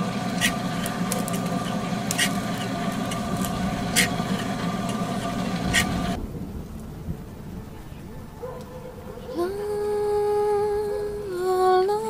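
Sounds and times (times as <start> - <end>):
mechanical hum of held tones: 0.0 - 6.2, 7.7 - 12.0.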